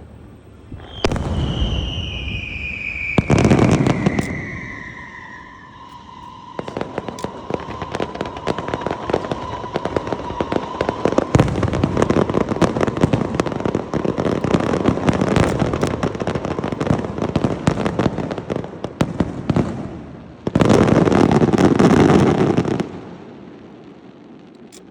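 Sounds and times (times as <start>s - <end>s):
fireworks crackling: 0.0s - 24.9s
firework whistle: 0.4s - 23.2s.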